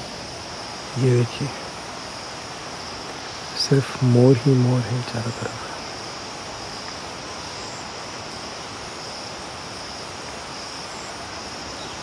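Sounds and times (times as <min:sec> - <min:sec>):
insect chorus: 0:00.0 - 0:12.0
outdoor hiss: 0:00.0 - 0:12.0.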